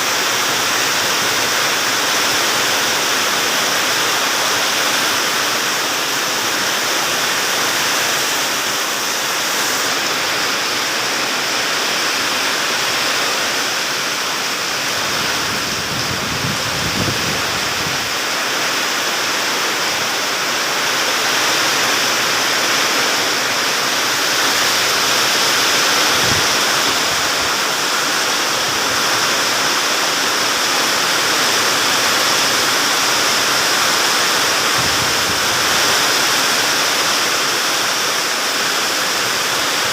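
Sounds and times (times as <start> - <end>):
heavy rain pouring: 0.0 - 39.9
strong wind: 0.0 - 39.9.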